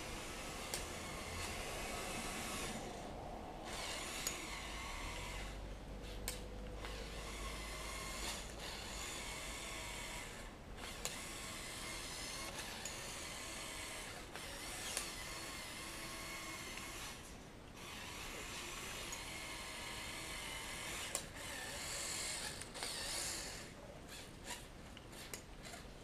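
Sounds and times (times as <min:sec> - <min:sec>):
toy motors and gears whirring: 0:00.0 - 0:03.0, 0:03.6 - 0:26.0.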